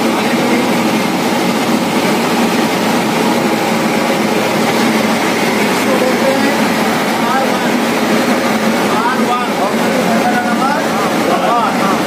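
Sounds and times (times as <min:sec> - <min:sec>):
blowers and fans whooshing: 0:00.0 - 0:12.0.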